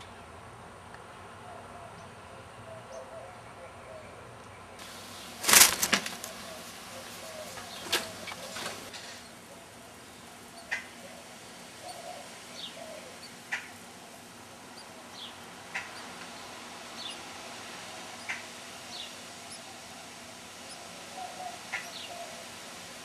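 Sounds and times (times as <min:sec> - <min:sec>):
steady background hiss: 0:00.0 - 0:23.0
wrens chirping: 0:01.5 - 0:23.0.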